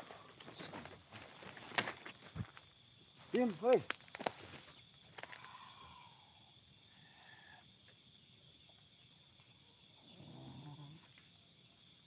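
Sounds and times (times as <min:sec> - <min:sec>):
night insects humming: 0:00.0 - 0:12.0.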